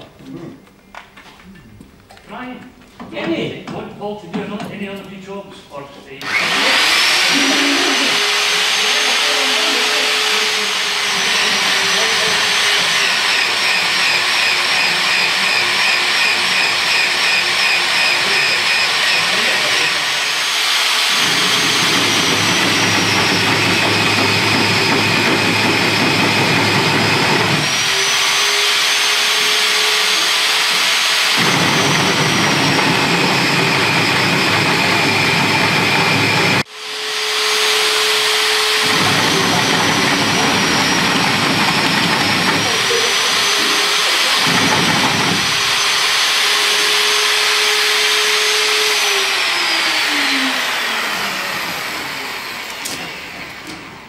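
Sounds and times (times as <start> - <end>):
drill motor whining: 6.2 - 54.0.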